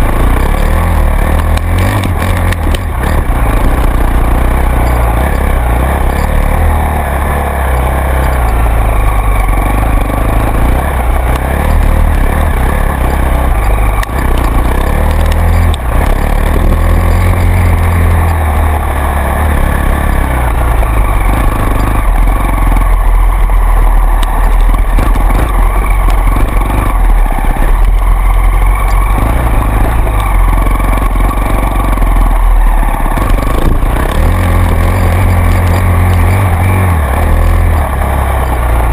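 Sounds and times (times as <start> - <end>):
off-road vehicle engine rumbling: 0.0 - 38.9.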